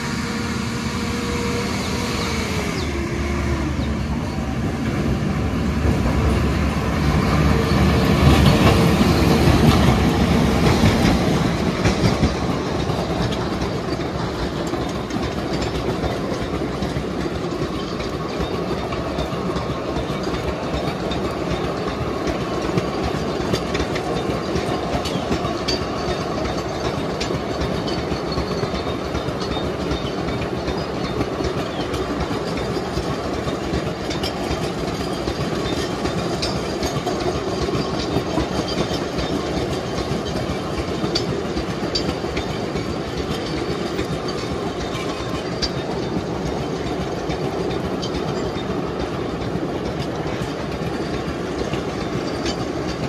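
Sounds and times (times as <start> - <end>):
steel wheels rumbling on rails: 0.0 - 53.0.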